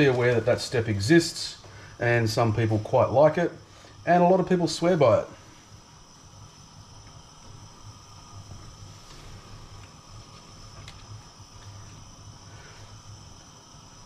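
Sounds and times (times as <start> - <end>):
gas burner flame rumbling: 0.0 - 14.0.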